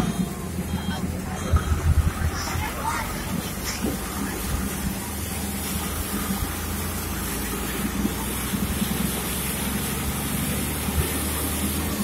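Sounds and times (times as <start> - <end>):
low steady hum: 0.0 - 12.0
rain: 0.0 - 12.0.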